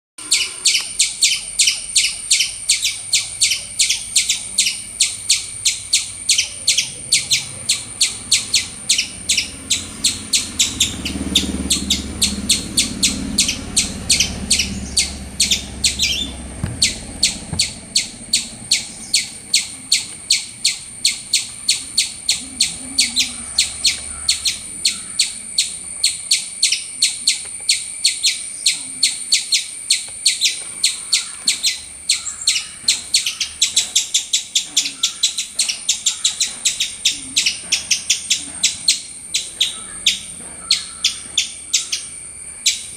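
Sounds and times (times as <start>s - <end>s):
squirrel chirping: 0.2s - 42.9s.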